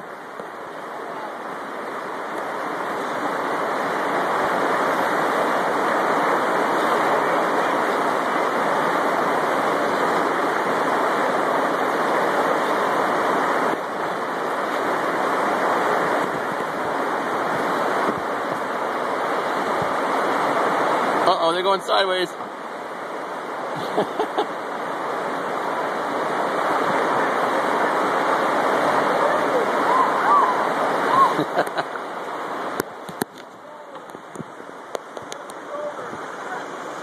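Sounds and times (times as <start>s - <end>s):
river rapids rushing over rocks: 0.0s - 37.0s.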